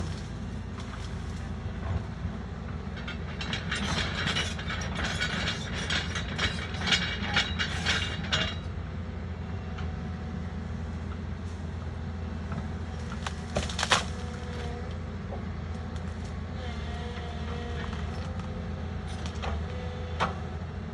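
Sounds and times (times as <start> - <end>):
excavator engine running: 0.0 - 20.9.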